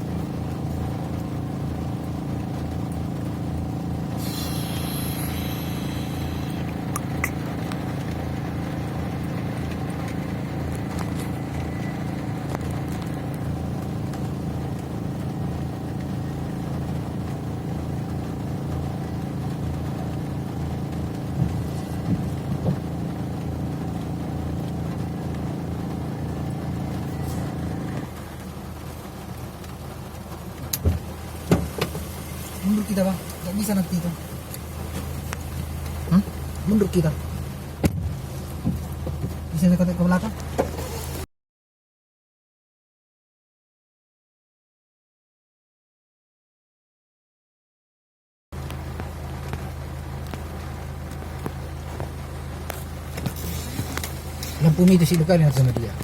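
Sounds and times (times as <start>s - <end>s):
vehicle engine droning: 0.0s - 41.3s, 48.6s - 56.0s.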